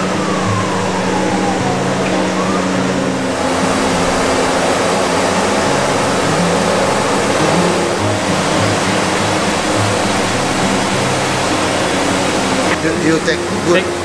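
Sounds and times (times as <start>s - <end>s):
gas burner roar: 0.0s - 14.0s.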